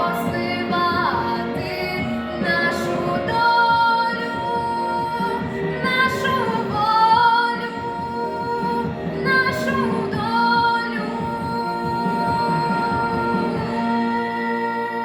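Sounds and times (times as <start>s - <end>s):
backing track: 0.0s - 15.0s
girl singing: 0.0s - 15.0s.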